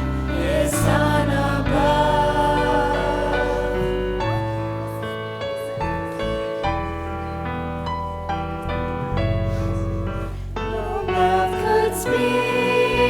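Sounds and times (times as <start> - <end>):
slow piano worship music: 0.0 - 13.0.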